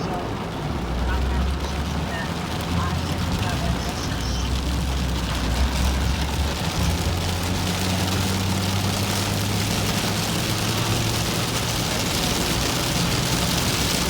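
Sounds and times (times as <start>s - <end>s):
car engine drone: 0.0s - 14.0s
rain and wet road hiss: 0.0s - 14.0s.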